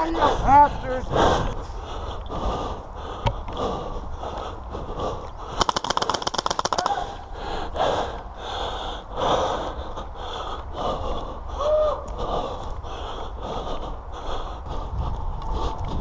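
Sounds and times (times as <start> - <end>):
fast heavy breathing: 0.0 - 16.0.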